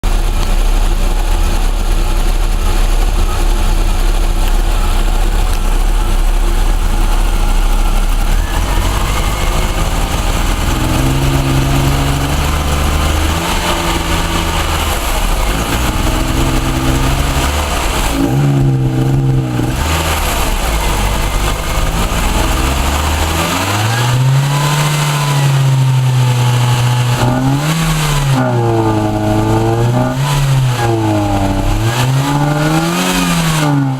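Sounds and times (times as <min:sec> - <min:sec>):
engine misfiring and revving: 0:00.0 - 0:33.9.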